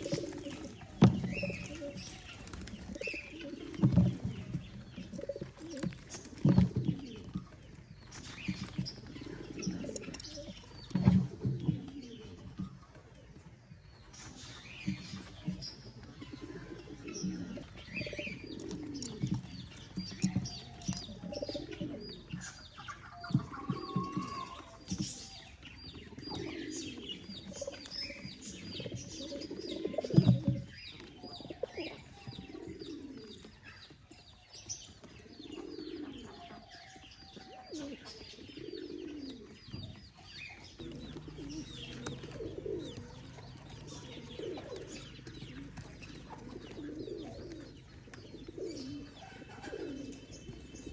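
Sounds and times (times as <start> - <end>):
pigeons cooing: 0.0 - 50.9
small birds chirping: 0.0 - 50.9.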